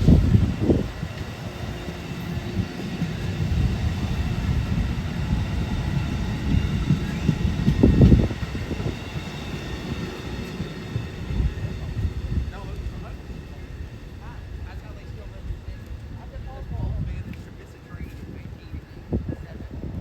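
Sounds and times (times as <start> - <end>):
passenger train passing: 0.0 - 20.0.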